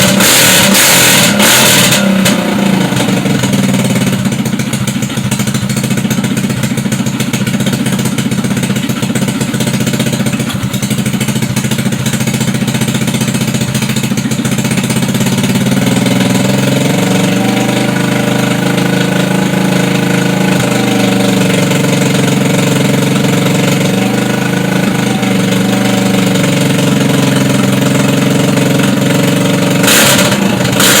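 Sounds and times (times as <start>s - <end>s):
scooter engine running: 0.0s - 31.0s.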